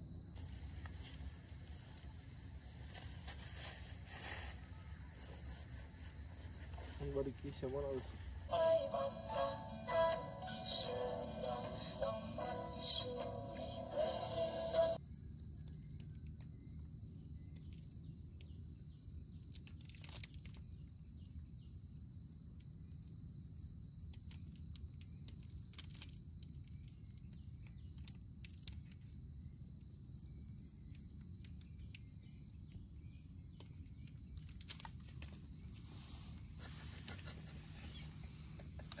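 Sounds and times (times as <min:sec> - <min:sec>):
insect chorus chirring: 0:00.0 - 0:39.0.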